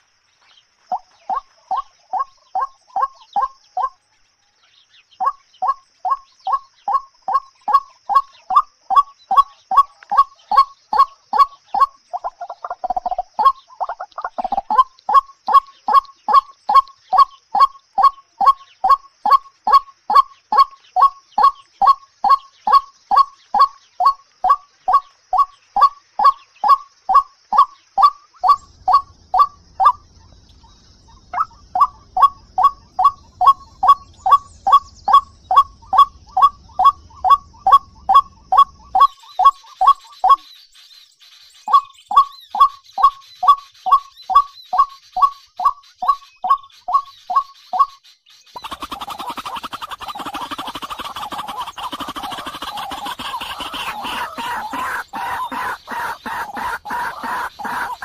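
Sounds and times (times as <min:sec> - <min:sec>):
bird harsh repeated call: 0:05.2 - 0:58.0.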